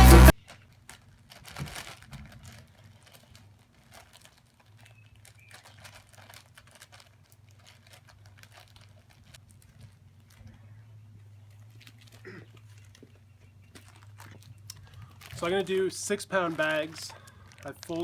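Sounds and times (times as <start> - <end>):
faint crinkling: 0.3 - 18.0.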